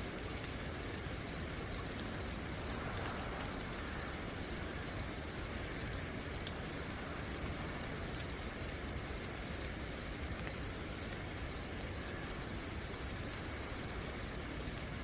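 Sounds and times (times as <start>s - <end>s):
crickets trilling: 0.0s - 15.0s
steady rain: 0.0s - 15.0s.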